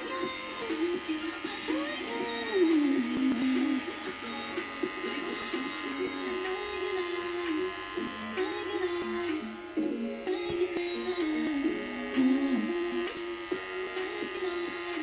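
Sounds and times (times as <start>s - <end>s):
background music with singing: 0.0s - 15.0s
electric hair clippers buzzing: 0.0s - 15.0s.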